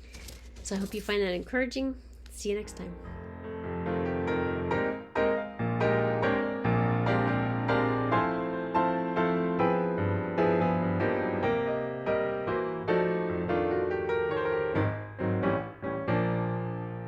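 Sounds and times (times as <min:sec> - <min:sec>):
slow gentle piano music: 0:02.6 - 0:17.0.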